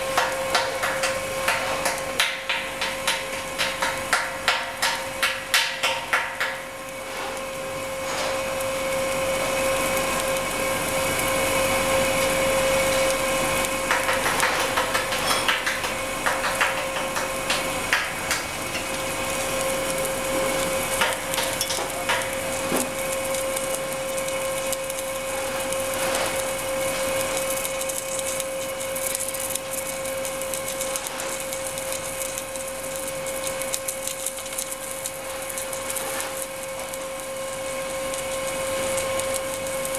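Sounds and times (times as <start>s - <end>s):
welding machinery humming: 0.0s - 39.9s.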